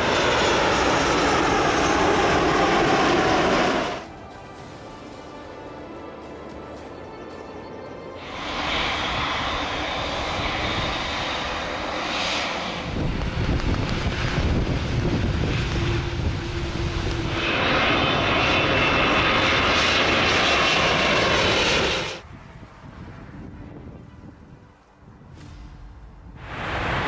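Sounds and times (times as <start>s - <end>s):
jet engine whine: 0.0s - 27.0s
jet engines deep rumble: 0.0s - 27.0s.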